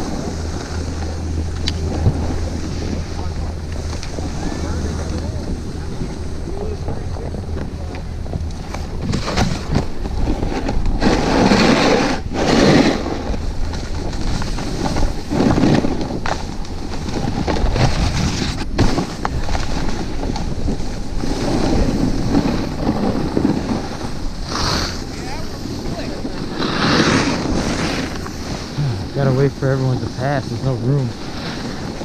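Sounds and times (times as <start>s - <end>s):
snowboard sliding on snow: 0.0s - 7.2s, 8.6s - 32.0s
wind over microphone: 0.0s - 32.0s.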